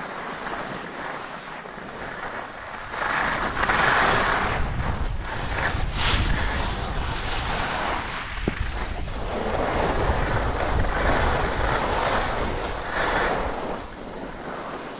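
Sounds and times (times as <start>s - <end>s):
skis scraping over snow: 0.0s - 14.9s
wind buffeting microphone: 0.0s - 14.9s.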